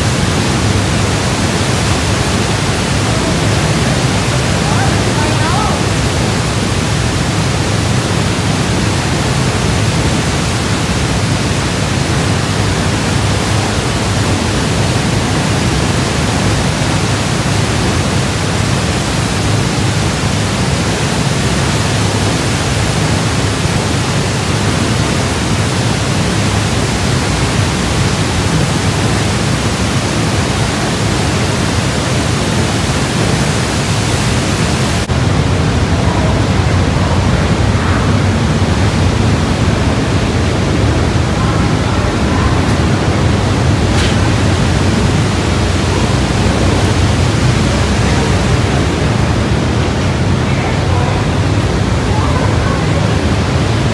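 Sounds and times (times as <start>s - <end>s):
deep rush of falling water: 0.0s - 53.9s.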